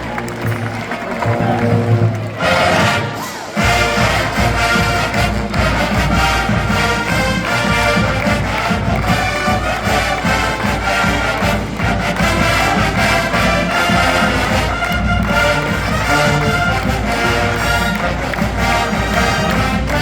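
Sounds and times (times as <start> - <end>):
brass chords: 0.0 - 20.0
drums beating: 0.0 - 20.0.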